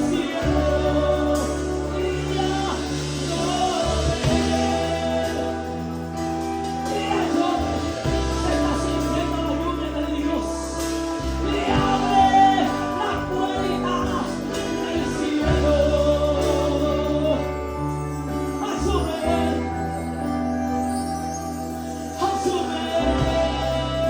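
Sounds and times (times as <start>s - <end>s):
bass line: 0.0s - 24.0s
gospel singing: 0.0s - 24.0s
keyboard chords: 0.0s - 24.0s.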